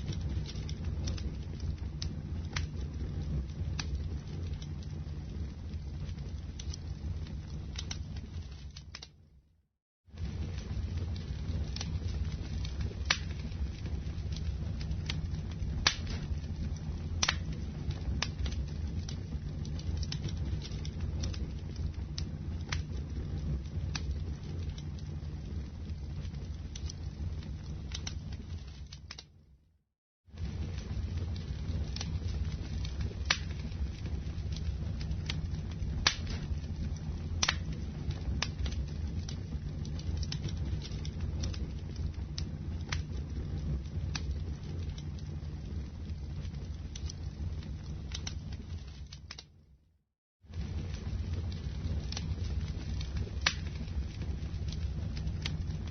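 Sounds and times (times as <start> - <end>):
fire crackling and popping: 0.0 - 9.5, 10.1 - 29.7, 30.3 - 49.8, 50.5 - 55.9
low rumble of flames: 0.0 - 55.9.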